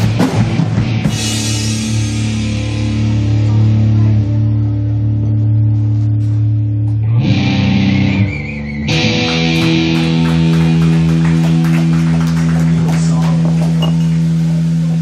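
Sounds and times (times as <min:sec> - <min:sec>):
electric guitars and bass ringing: 0:00.0 - 0:15.0.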